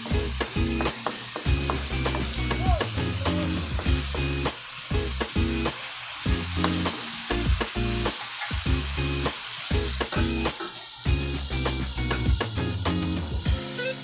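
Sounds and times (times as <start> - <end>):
background music: 0.0 - 14.0
food sizzling in a pan: 0.0 - 14.0.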